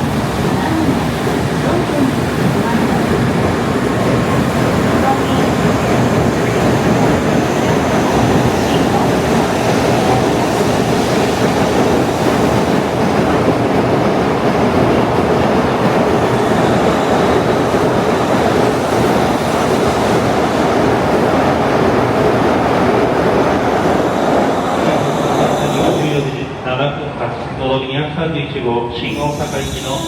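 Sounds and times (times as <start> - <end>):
train wheel and running noise: 0.0 - 30.0.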